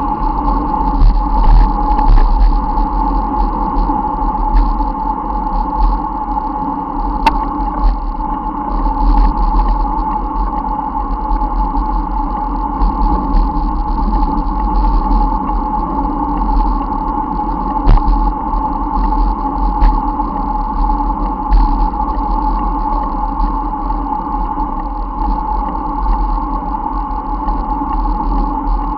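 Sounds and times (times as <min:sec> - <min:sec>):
deep fluctuating rumble: 0:00.0 - 0:28.9.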